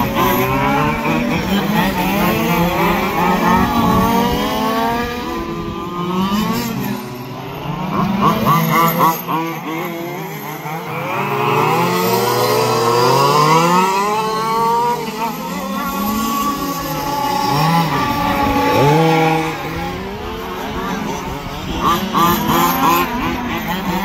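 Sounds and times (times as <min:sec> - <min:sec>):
small two-stroke engines running: 0:00.0 - 0:24.0.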